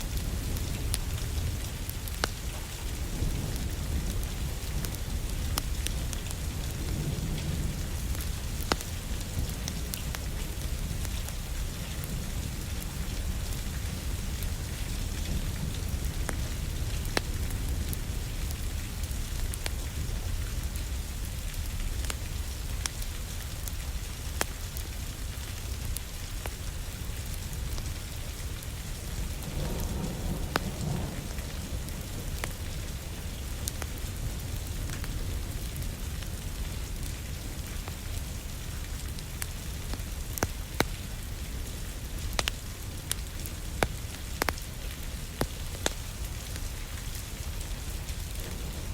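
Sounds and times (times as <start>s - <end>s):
wood fire crackling: 0.0s - 29.9s, 30.5s - 48.9s
steady rain falling: 0.0s - 48.9s.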